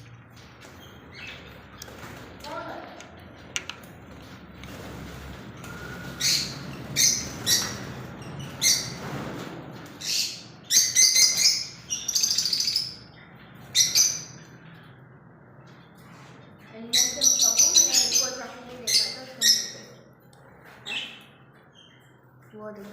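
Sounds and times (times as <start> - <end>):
birds chirping and squawking: 0.0 - 22.9.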